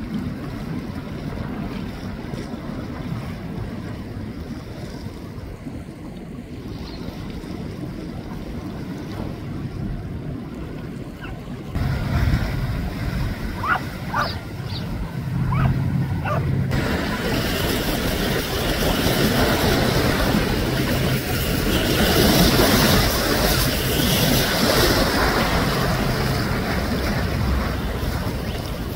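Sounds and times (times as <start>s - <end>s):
boat engine hum: 0.0s - 28.9s
harbour water: 0.0s - 28.9s
wind noise on microphone: 0.0s - 28.9s.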